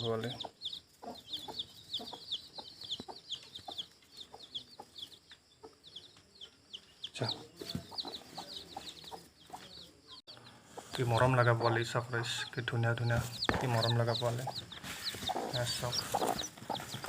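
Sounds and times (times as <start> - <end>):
chicks peeping: 0.0 - 17.0
hen clucking softly: 0.2 - 6.5, 7.1 - 9.8, 10.4 - 17.0.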